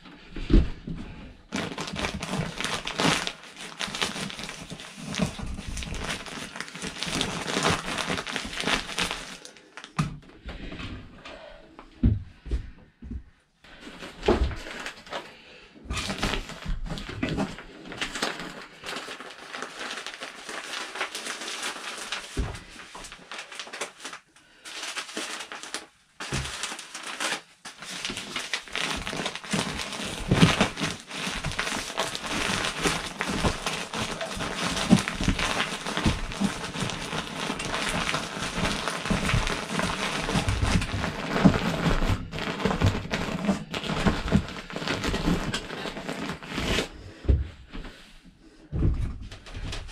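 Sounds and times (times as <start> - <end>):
insulation crinkling and scraping: 0.0 - 12.0, 13.7 - 48.1, 48.8 - 49.9.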